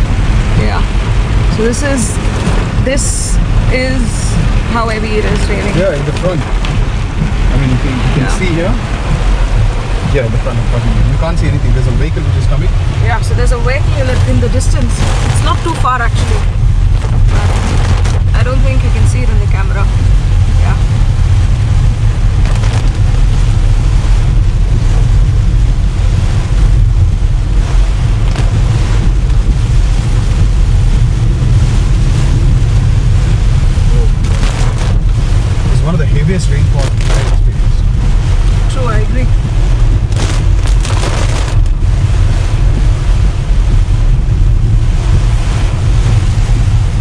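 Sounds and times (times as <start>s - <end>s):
heavy rain on a car: 0.0s - 47.0s
road and wind rumble: 0.0s - 47.0s.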